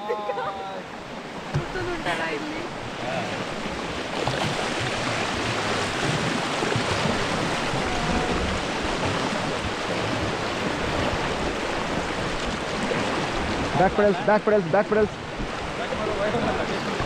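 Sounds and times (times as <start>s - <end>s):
fast-flowing river water: 0.0s - 17.0s.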